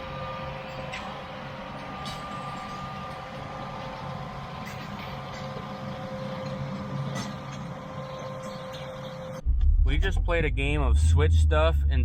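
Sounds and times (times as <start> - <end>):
high whine: 0.0 - 12.0.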